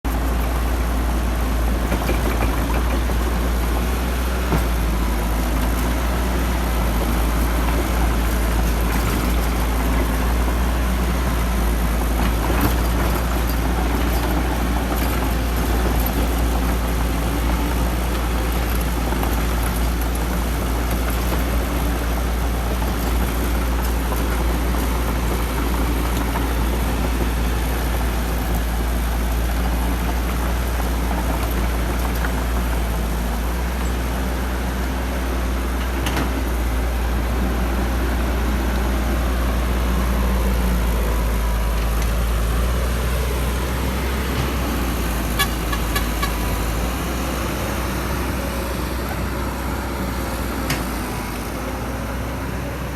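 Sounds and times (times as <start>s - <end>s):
excavator diesel engine droning: 0.0s - 52.9s.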